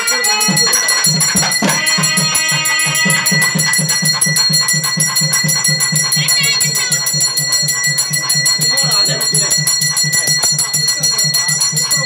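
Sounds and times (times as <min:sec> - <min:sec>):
temple bells ringing: 0:00.0 - 0:12.0
fast drumbeat: 0:00.4 - 0:12.0.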